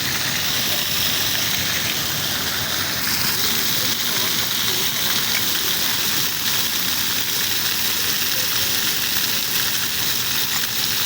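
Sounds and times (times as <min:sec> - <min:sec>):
rushing water hiss: 0:00.0 - 0:11.0.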